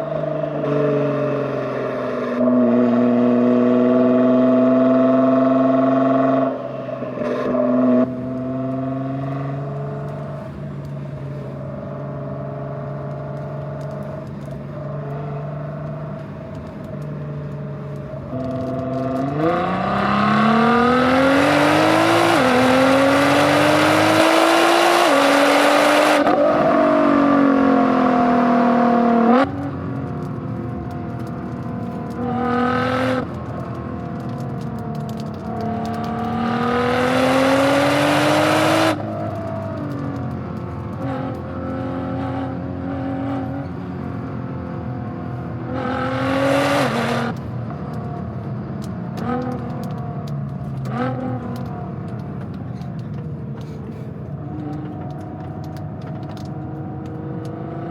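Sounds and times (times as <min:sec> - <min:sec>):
car engine accelerating hard: 0:00.0 - 0:57.9.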